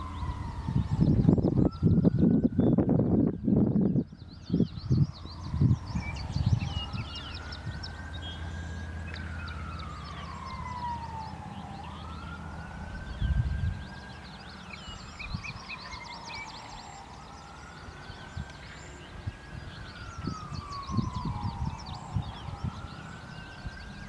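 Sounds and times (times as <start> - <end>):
siren wailing: 0.0 - 24.0
small birds chirping: 0.0 - 24.0
wind buffeting microphone: 0.0 - 24.0.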